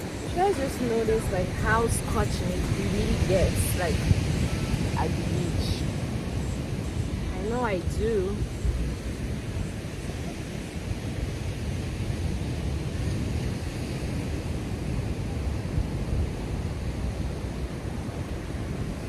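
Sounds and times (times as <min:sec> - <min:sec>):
ocean surf: 0:00.0 - 0:19.0
wind buffeting microphone: 0:00.0 - 0:19.0.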